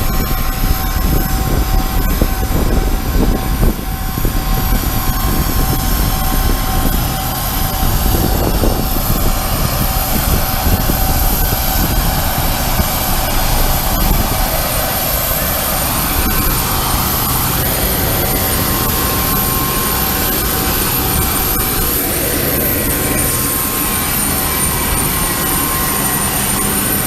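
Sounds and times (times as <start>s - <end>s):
high whining engine tones: 0.0s - 27.0s
jet engines rumbling in cabin: 0.0s - 27.0s.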